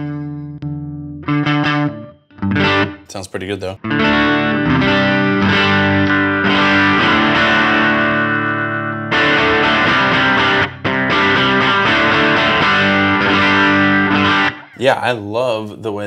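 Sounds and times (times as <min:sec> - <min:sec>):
overdriven electric guitar chords: 0:00.0 - 0:03.1, 0:03.8 - 0:14.8.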